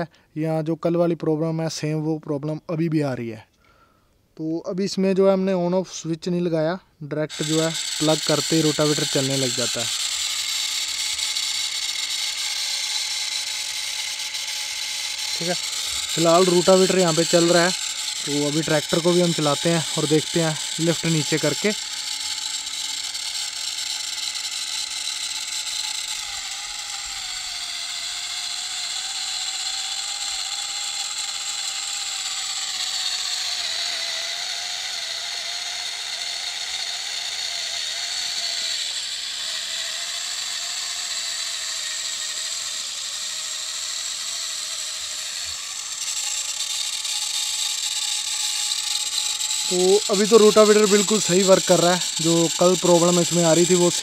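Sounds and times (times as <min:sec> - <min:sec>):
small electric motors whirring: 0:07.1 - 0:54.0
rotavator tilling sand: 0:07.2 - 0:54.0.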